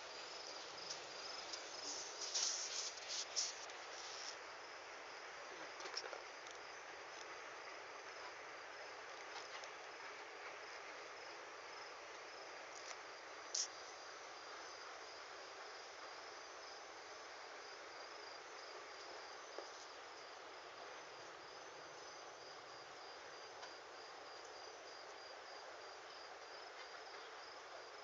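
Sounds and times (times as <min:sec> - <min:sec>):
cricket chirping: 0:00.0 - 0:28.0.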